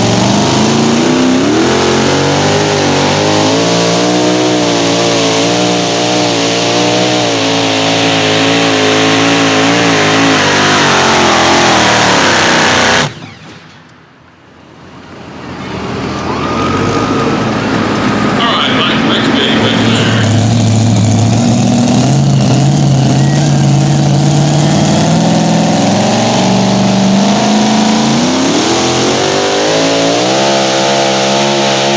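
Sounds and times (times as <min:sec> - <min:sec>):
engine running at high revs: 0:00.0 - 0:13.8, 0:14.9 - 0:31.9.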